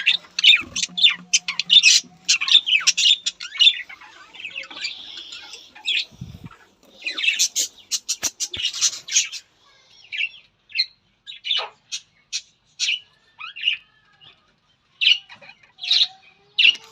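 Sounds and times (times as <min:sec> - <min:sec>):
parrots chirping and squawking: 0:00.0 - 0:09.5, 0:10.1 - 0:14.4, 0:15.0 - 0:16.9.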